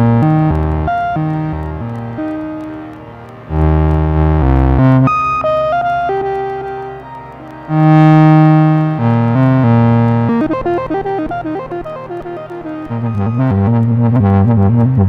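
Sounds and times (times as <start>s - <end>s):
synthesizer bass notes: 0.0s - 15.0s.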